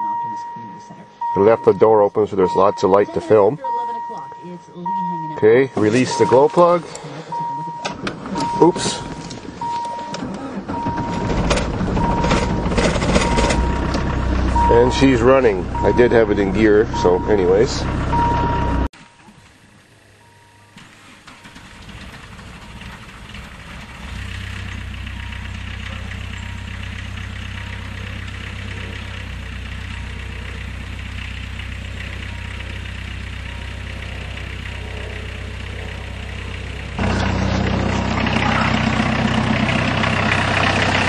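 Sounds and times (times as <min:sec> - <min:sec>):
diesel engine idling: 0:00.0 - 0:18.9, 0:19.5 - 0:41.0.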